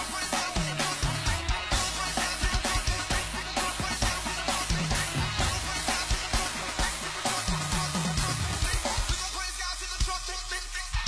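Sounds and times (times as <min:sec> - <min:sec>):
gospel hip-hop music: 0:00.0 - 0:11.0.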